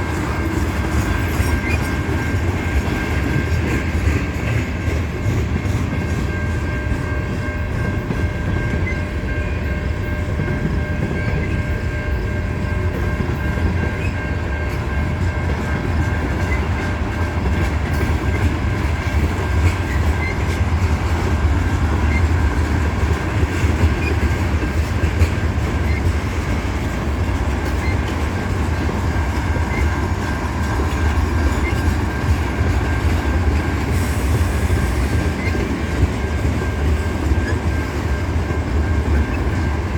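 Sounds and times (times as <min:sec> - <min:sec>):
wheel clickety-clack: 0:00.0 - 0:09.1, 0:09.8 - 0:39.9
freight train rumble: 0:00.0 - 0:39.9.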